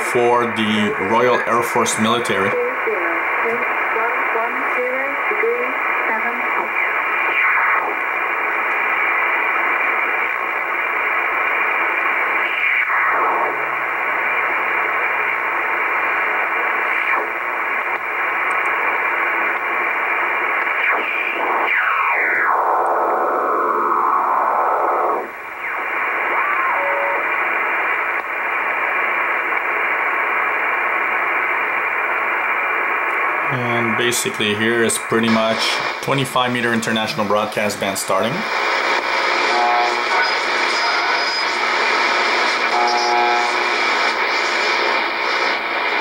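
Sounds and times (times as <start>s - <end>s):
radio static hiss: 0.0s - 46.0s
radio whistling tones: 0.0s - 46.0s.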